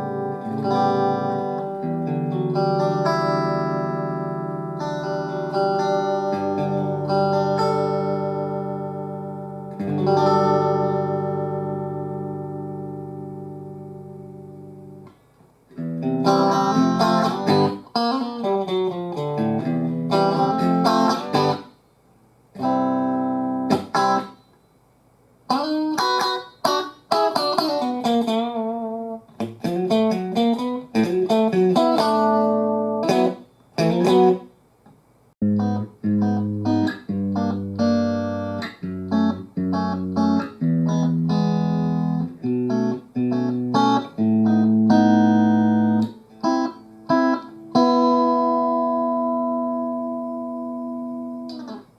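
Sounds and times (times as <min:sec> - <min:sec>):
electric guitar: 0:00.0 - 0:21.8, 0:22.5 - 0:24.5, 0:25.5 - 0:34.5, 0:35.4 - 0:51.9.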